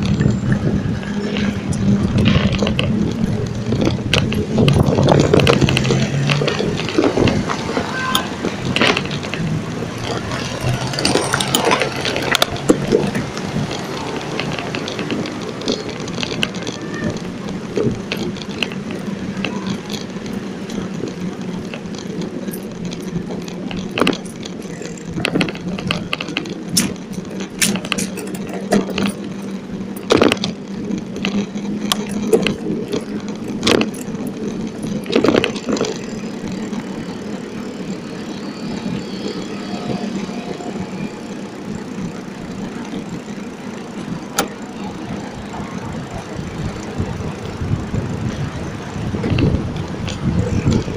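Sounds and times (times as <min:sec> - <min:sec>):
bicycle rattling over bumps: 0:00.0 - 0:50.9
bicycle rolling over paving: 0:00.0 - 0:50.9
street noise: 0:00.0 - 0:50.9.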